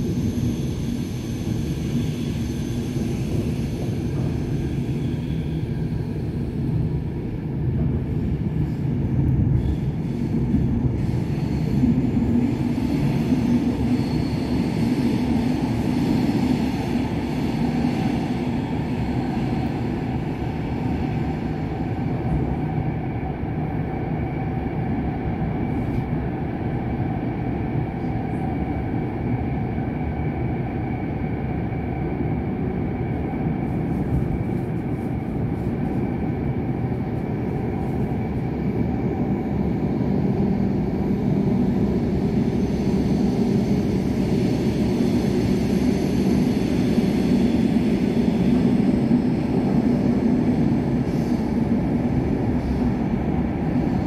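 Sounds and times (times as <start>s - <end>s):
train wheels rolling rumble: 0.0s - 54.0s.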